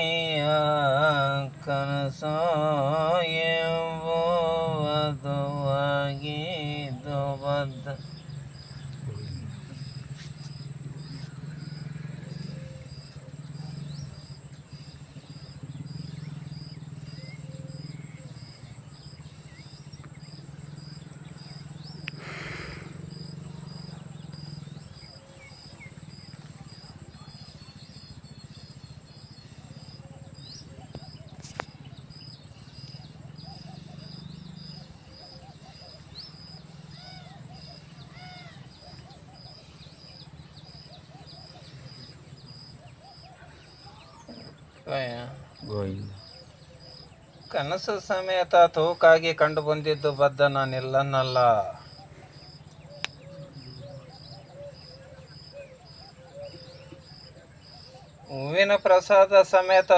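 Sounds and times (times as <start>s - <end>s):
steady low hum: 0.0s - 58.3s
arched bird calls: 0.0s - 59.9s
bird chirping: 0.0s - 59.9s.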